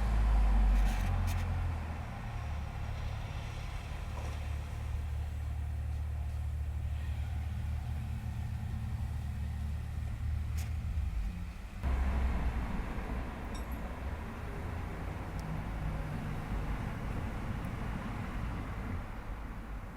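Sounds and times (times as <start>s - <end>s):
low soundtrack rumble: 1.6s - 19.9s.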